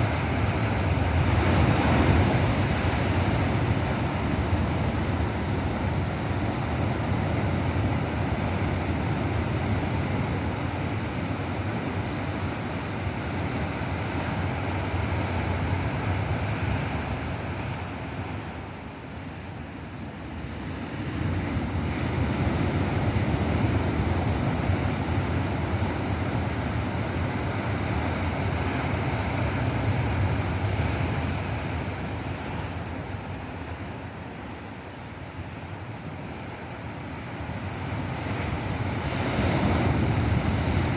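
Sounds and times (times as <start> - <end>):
ocean waves breaking: 0.0 - 18.7, 21.2 - 40.9.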